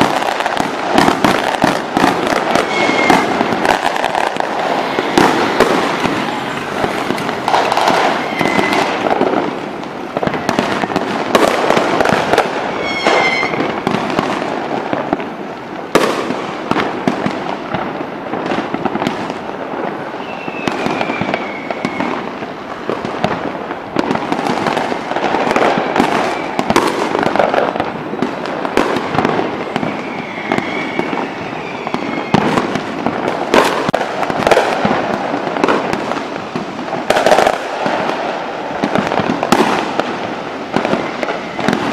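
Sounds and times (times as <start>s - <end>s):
fireworks bangs and crackling: 0.0s - 41.9s
fireworks whistles: 0.0s - 41.9s.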